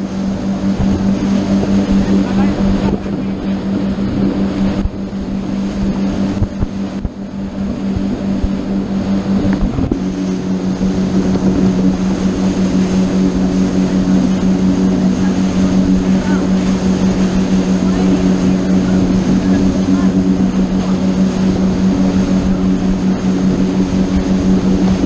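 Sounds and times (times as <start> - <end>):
motorboat engine humming: 0.0 - 25.0
rushing wind: 0.0 - 25.0
water noise: 0.0 - 25.0.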